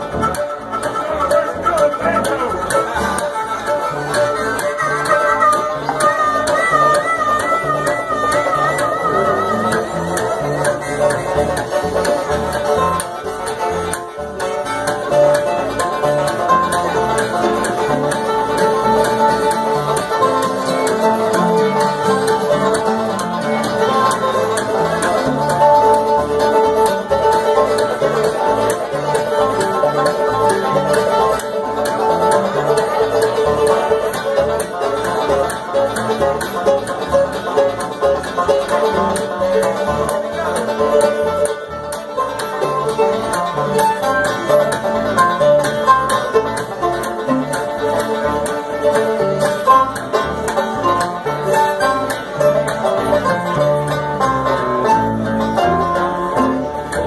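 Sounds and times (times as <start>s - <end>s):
banjo picking: 0.0s - 57.0s
bluegrass band playing: 0.0s - 57.0s.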